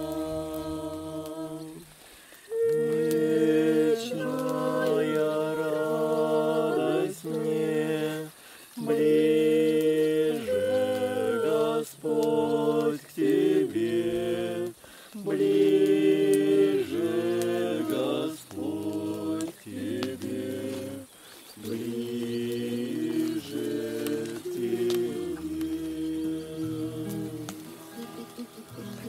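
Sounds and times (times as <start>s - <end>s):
group singing unaccompanied: 0.0s - 29.0s.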